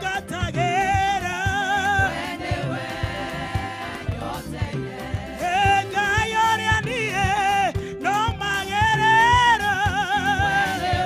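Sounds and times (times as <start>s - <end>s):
church band drums and bass: 0.0s - 11.0s
woman singing gospel: 0.0s - 11.0s.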